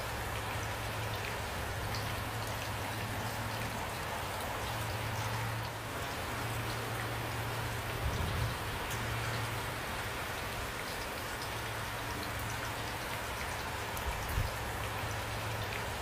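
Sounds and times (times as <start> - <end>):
raindrops ticking on a surface: 0.0 - 16.0
steady rain falling: 0.0 - 16.0.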